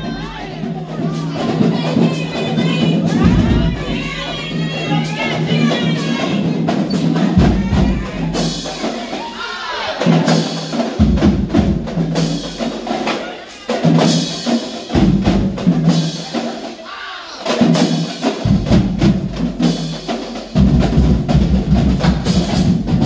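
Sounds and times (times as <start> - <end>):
drums: 0.0 - 23.0
marching band playing: 0.0 - 23.0.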